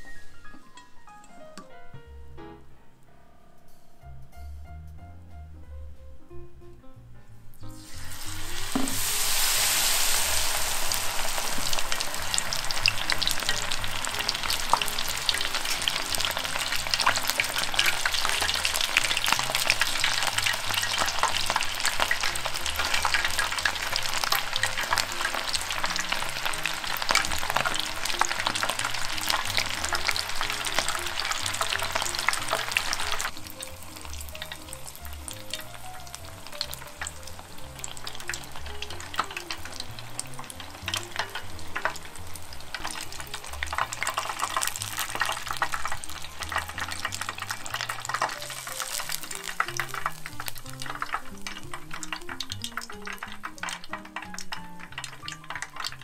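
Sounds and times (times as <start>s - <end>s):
battered prawn deep-frying in oil: 7.6s - 56.0s.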